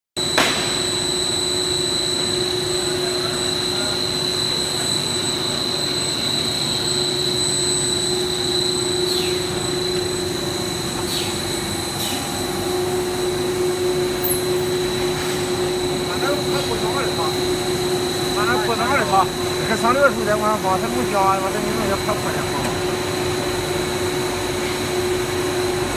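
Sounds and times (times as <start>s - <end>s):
extrusion machine drone: 0.2s - 25.9s.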